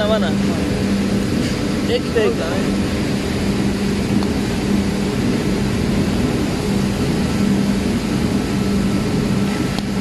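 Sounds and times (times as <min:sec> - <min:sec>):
machinery droning: 0:00.0 - 0:10.0.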